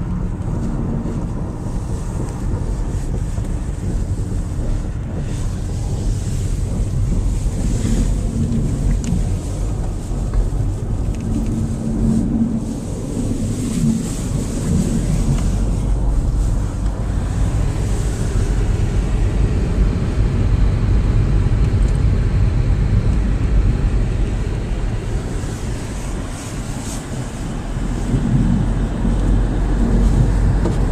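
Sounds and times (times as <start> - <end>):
engine and tyre rumble: 0.0 - 30.9
faint engine hum: 0.0 - 30.9.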